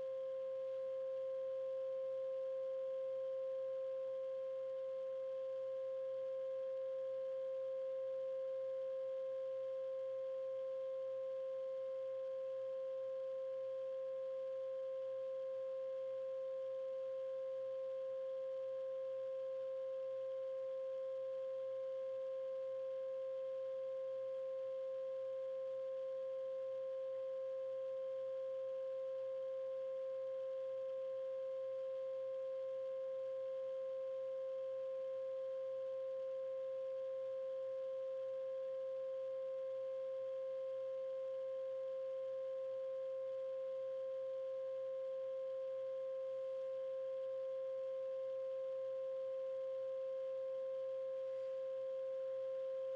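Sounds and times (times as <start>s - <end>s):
steady pure tone: 0.0s - 52.9s.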